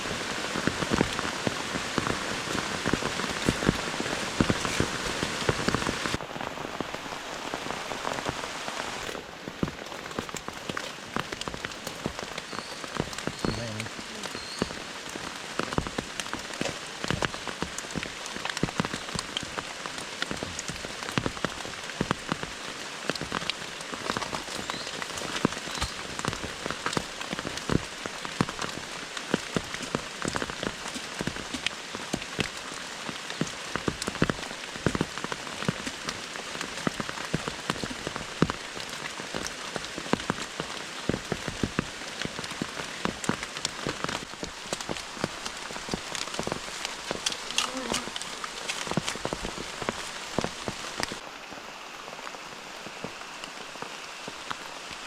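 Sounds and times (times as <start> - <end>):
heavy rain falling: 0.0 - 55.0
raindrops striking close by: 0.0 - 55.0.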